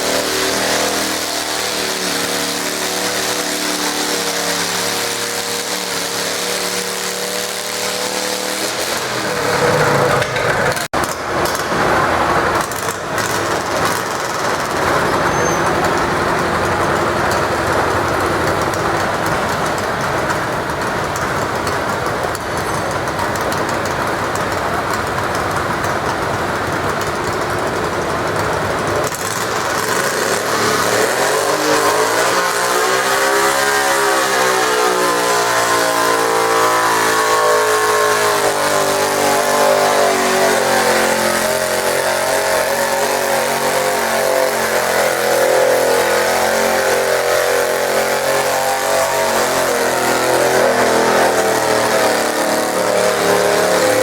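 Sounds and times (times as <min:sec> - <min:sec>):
garden tractor engine under load: 0:00.0 - 0:54.0.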